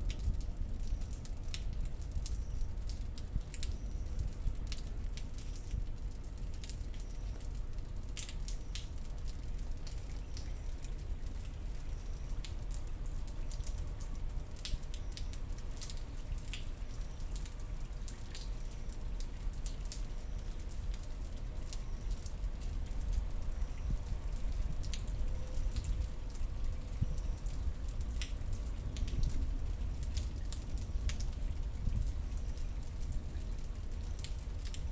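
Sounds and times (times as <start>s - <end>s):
raindrops tapping and dripping: 0.0s - 34.9s.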